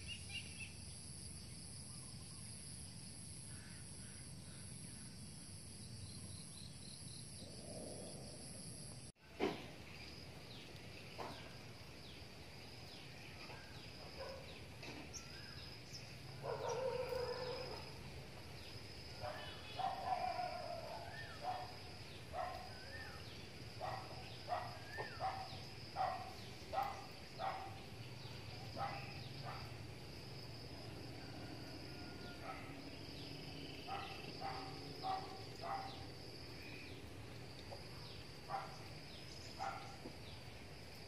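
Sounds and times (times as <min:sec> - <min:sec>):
high insect trill: 0:00.0 - 0:41.0.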